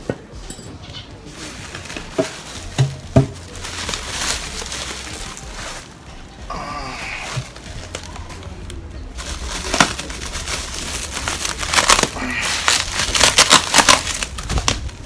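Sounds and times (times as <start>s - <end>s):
packaging rustling: 1.4s - 15.0s.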